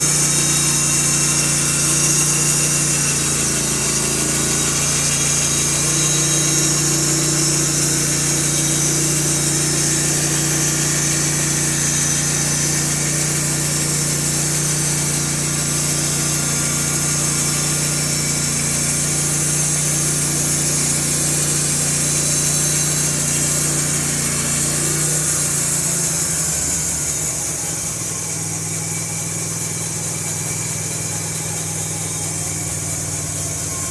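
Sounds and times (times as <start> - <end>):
band blade sawing hiss: 0.0 - 27.4
sawmill engine running: 0.0 - 33.9.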